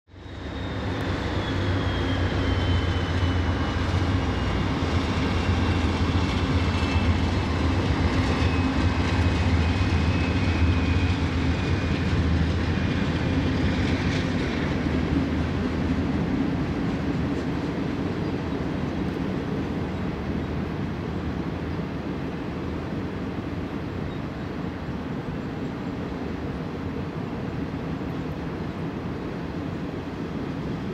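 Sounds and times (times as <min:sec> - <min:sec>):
diesel locomotives droning: 0:00.1 - 0:30.9.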